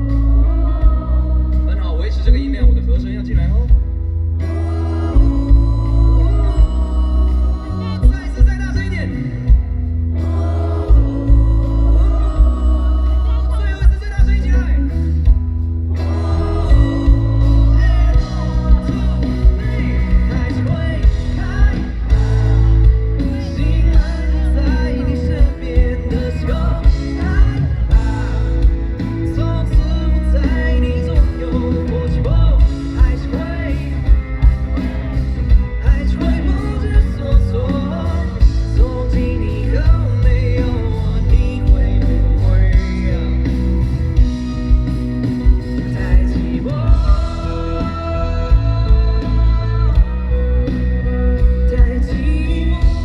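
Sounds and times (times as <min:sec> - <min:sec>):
crowd singing along: 0:00.0 - 0:02.8, 0:04.0 - 0:53.0
live pop band playing: 0:00.0 - 0:53.0.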